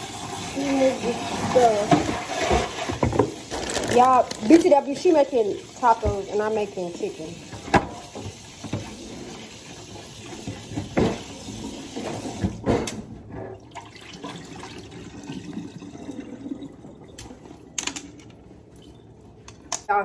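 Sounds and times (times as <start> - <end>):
faucet water running into sink: 0.0 - 12.6, 13.7 - 17.6.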